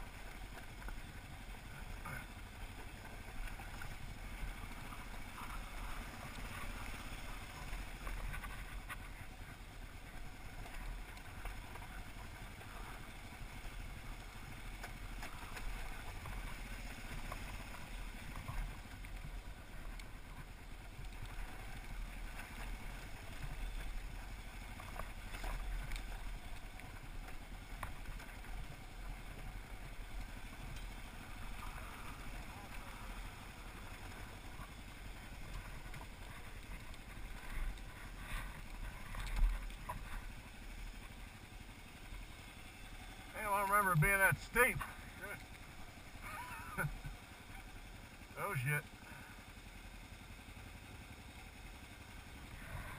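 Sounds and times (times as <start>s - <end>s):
stones clicking and bike rattling: 0.0s - 48.0s
motorcycle engine running: 0.0s - 52.9s.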